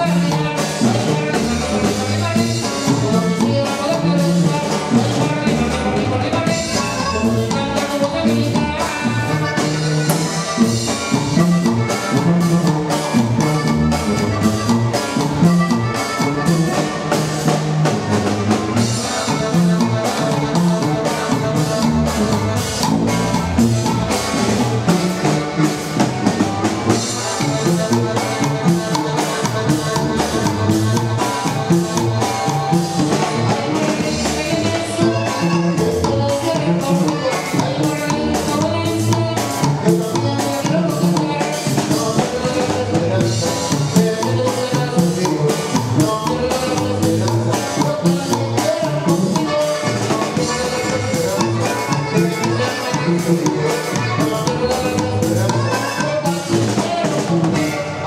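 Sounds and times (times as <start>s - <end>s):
drum kit beat: 0.0s - 58.0s
electric guitar: 0.0s - 58.0s
sousaphone bass line: 0.0s - 58.0s.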